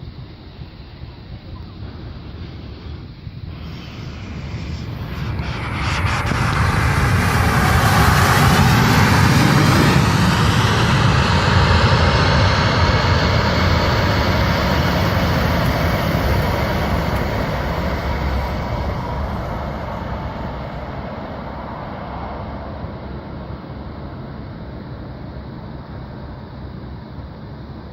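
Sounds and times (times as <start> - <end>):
jet engine rush with high whine: 0.0 - 27.9.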